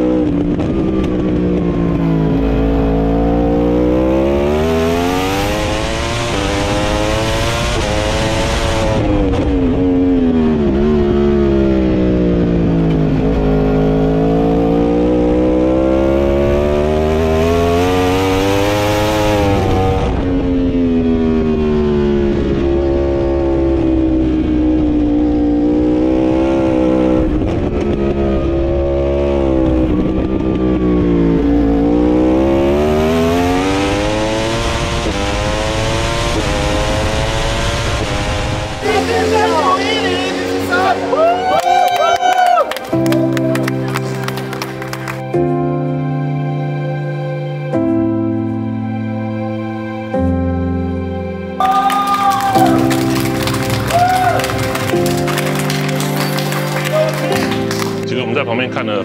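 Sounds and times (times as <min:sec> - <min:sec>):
motorcycle engine racing: 0:00.0 - 0:45.7, 0:52.2 - 0:59.0.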